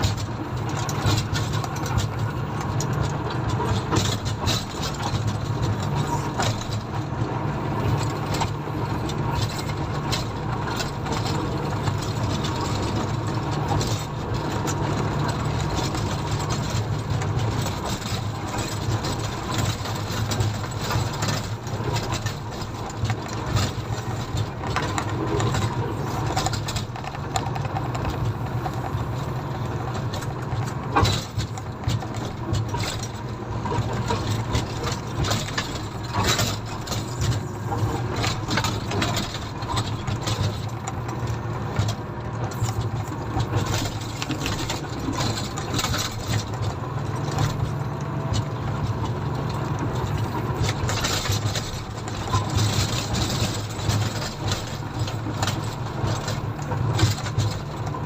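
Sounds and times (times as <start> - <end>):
diesel engine humming: 0.0 - 58.0
knocks and rattles: 0.0 - 58.0.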